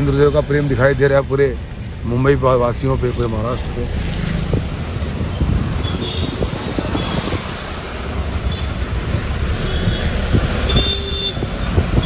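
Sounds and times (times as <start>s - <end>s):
heavy rain: 0.0s - 12.0s
vehicle road noise on wet street: 0.0s - 12.0s.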